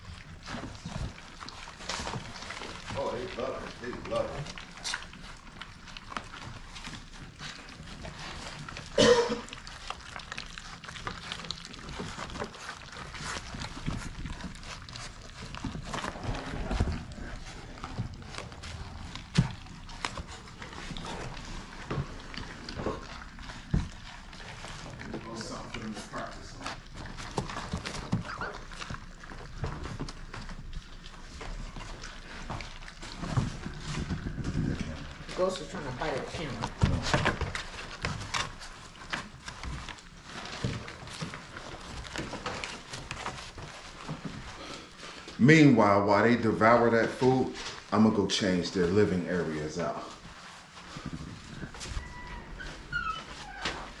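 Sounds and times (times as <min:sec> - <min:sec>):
puppies eating from metal pan: 0:00.0 - 0:54.0.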